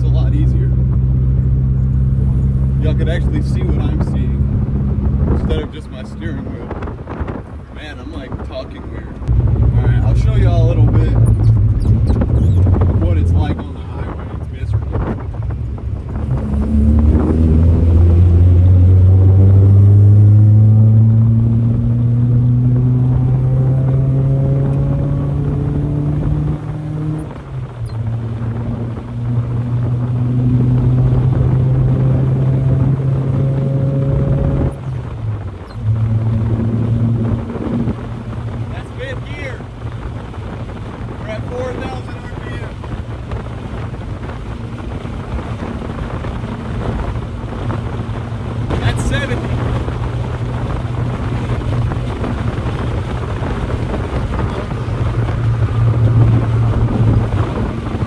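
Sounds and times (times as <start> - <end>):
car engine at steady revs: 0.0 - 58.0
road noise: 0.0 - 58.0.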